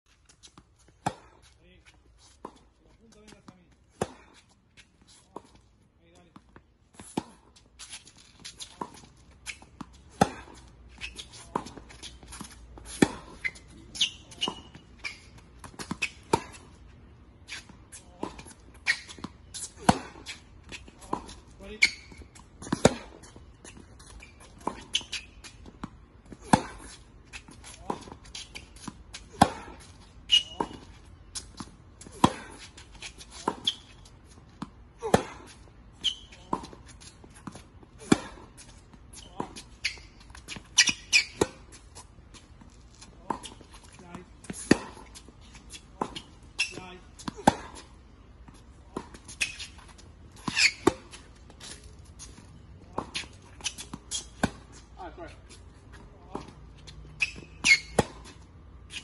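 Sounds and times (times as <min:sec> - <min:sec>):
court shoes squeaking: 0:00.0 - 0:59.0
tennis racket hitting balls: 0:00.4 - 0:01.4, 0:02.4 - 0:04.5, 0:07.0 - 0:16.8, 0:17.4 - 0:54.8, 0:56.0 - 0:59.0.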